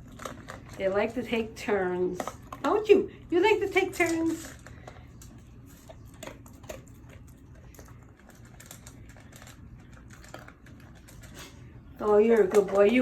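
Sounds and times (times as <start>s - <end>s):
dog eating crunchily: 0.0s - 13.0s.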